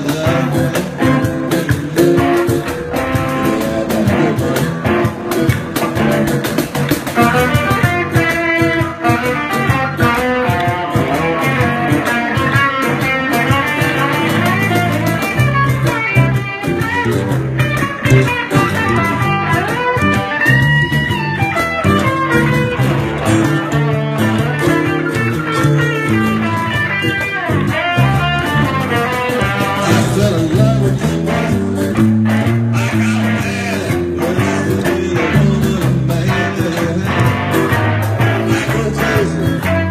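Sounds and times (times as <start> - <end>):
live band with guitars playing: 0.0 - 39.9.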